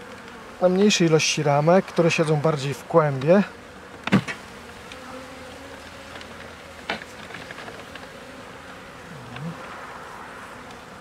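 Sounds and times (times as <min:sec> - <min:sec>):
bees buzzing: 0:00.0 - 0:11.0
single bee humming: 0:00.0 - 0:11.0.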